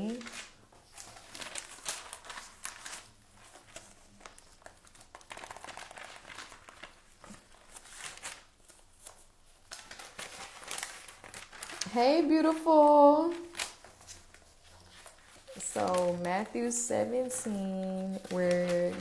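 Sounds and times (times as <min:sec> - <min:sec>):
rustling and crinkling handling noise: 0:00.0 - 0:19.0.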